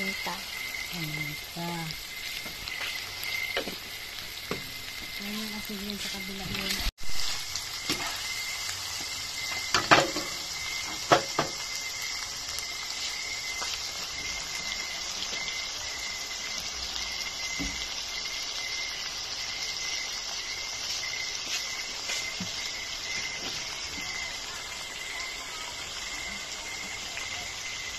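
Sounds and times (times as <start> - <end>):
meat sizzling in oil: 0.0 - 27.9.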